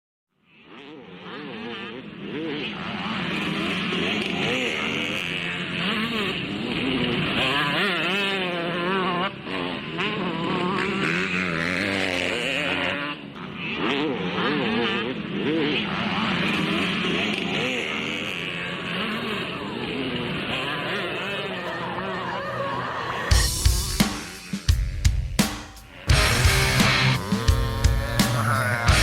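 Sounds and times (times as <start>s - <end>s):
motocross bike engines revving: 0.6s - 29.0s.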